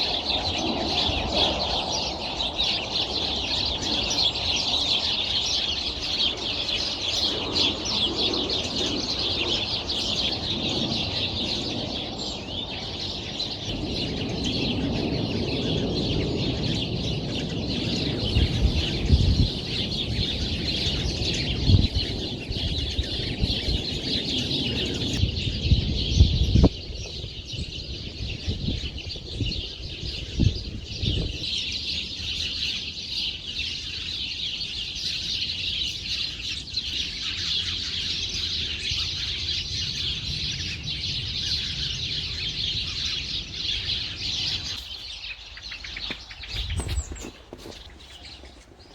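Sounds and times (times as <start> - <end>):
flock of birds chirping: 0.0 - 48.9.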